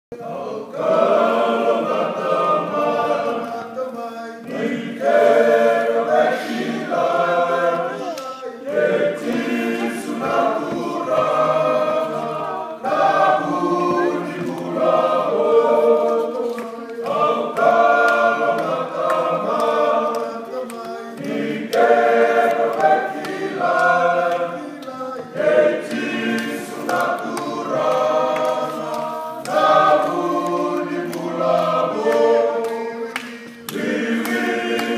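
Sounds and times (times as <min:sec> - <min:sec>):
men singing in harmony: 0:00.1 - 0:34.9.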